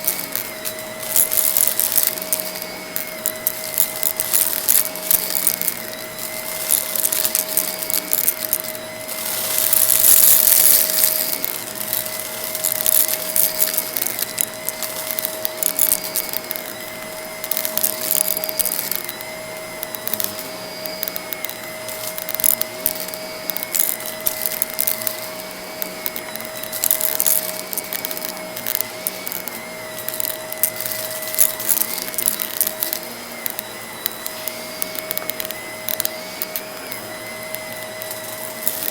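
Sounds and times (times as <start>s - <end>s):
debris crackling being sucked up: 0.0s - 38.9s
vacuum cleaner motor whine: 0.0s - 38.9s.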